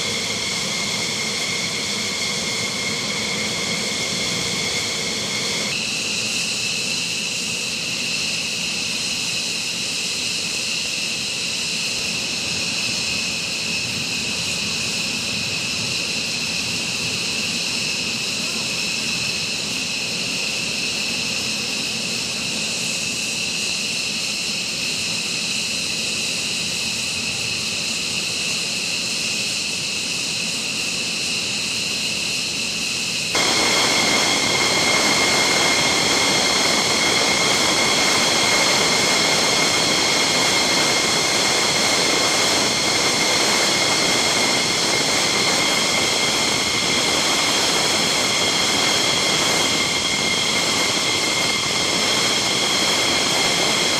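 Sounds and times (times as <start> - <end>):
jet engine roar: 0.0 - 53.9
jet engines whining: 0.0 - 53.9.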